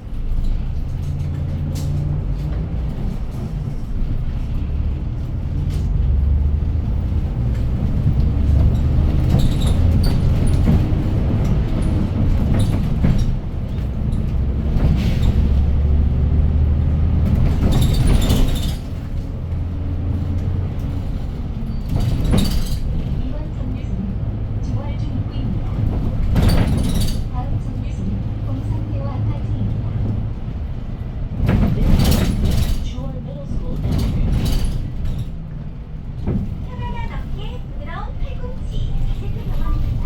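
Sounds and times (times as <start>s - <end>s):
bus engine and road rumble: 0.0s - 40.0s.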